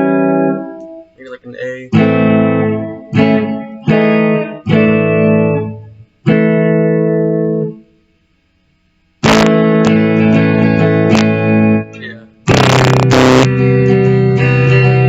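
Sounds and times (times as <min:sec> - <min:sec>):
guitar chords strummed: 0:00.0 - 0:08.0, 0:09.2 - 0:15.0.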